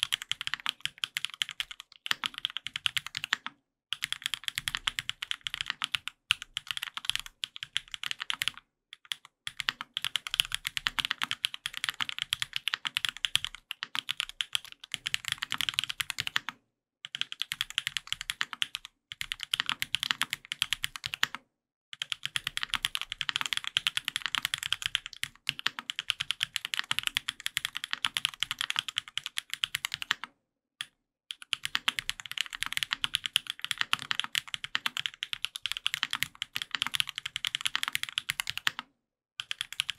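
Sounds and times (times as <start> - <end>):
mechanical keyboard typing: 0.0 - 21.4, 22.0 - 30.3, 31.3 - 39.9.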